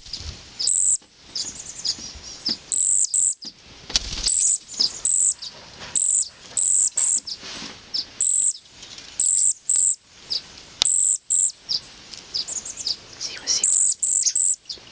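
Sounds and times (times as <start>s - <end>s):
faint lower bird chirps: 0.0s - 3.5s, 4.3s - 14.9s
high thin bird calls: 0.0s - 3.5s, 4.2s - 14.9s.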